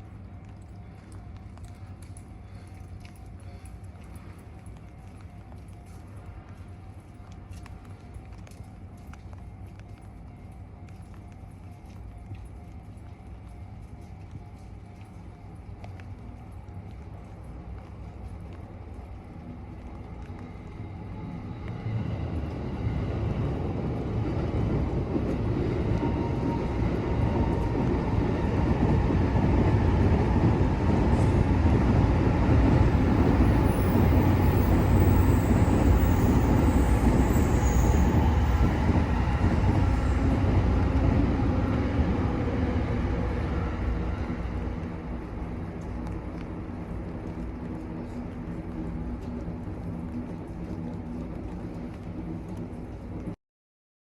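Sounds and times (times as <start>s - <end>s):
train wheels rumbling on rails: 0.0s - 53.4s.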